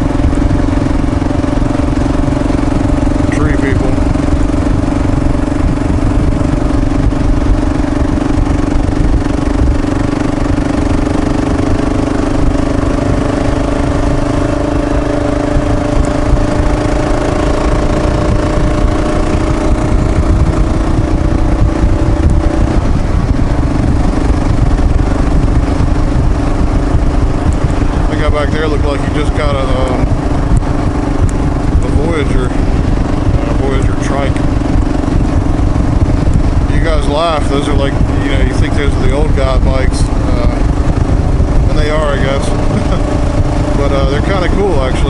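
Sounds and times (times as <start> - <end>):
motorcycle engine cruising: 0.0 - 45.0
wind rumble on microphone: 0.0 - 45.0.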